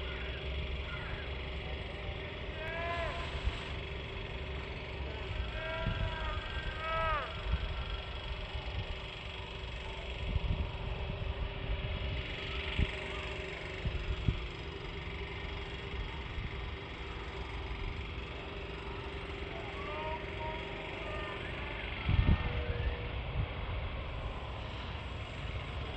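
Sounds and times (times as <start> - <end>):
engine hum: 0.0 - 25.9.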